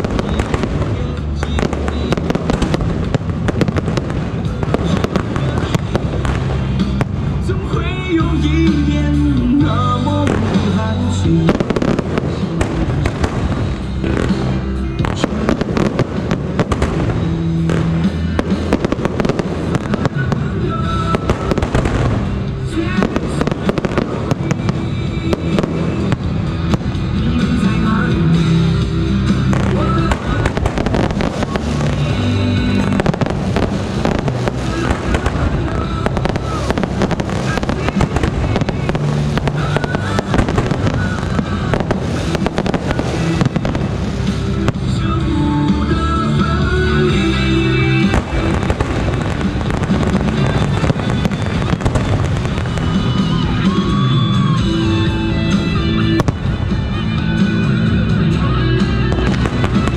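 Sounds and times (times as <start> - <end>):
background music: 0.0 - 59.9
fireworks bangs and crackles: 0.0 - 59.9.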